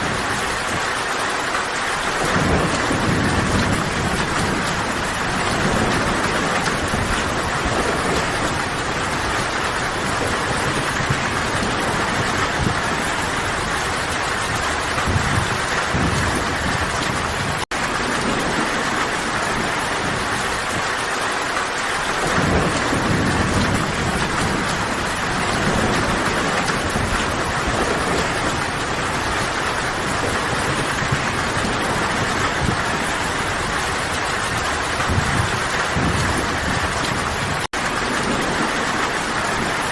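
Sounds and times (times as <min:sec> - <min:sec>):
distant thunder rumbles: 0:00.0 - 0:39.9
heavy rain: 0:00.0 - 0:39.9.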